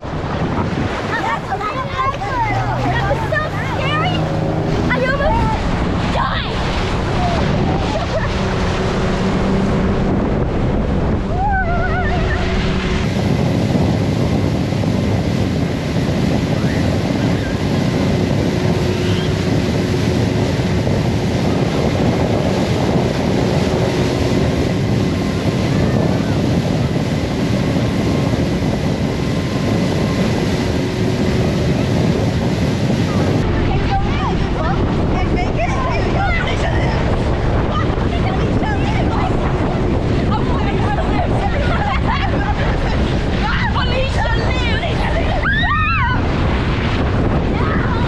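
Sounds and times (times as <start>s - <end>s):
boat engine running: 0.0s - 48.0s
churning water: 0.0s - 48.0s
wind buffeting microphone: 0.0s - 48.0s.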